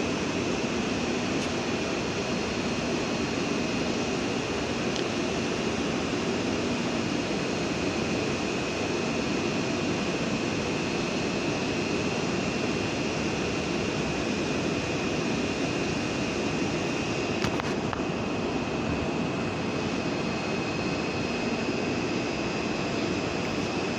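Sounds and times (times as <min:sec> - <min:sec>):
high steady whine: 0:00.0 - 0:23.9.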